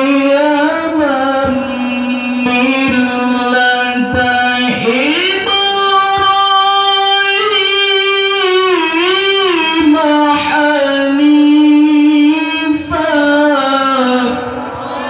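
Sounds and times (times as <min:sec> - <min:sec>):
man reciting melodically: 0:00.0 - 0:14.4.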